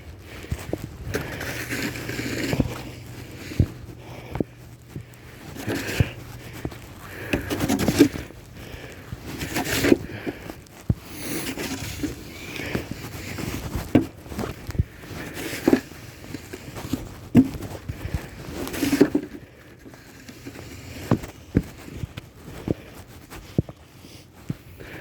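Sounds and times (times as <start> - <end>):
footsteps on snow: 0.0 - 25.0
snow shovel scraping snow: 0.1 - 25.0.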